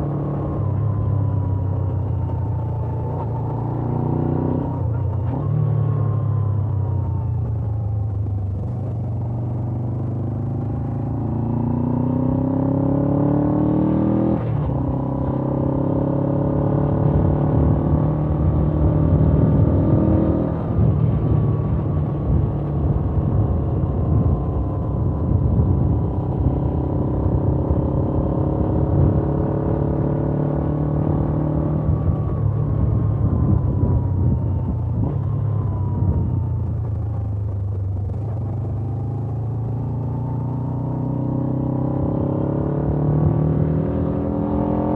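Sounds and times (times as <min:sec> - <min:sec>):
motorcycle engine revving: 0:08.5 - 0:44.9.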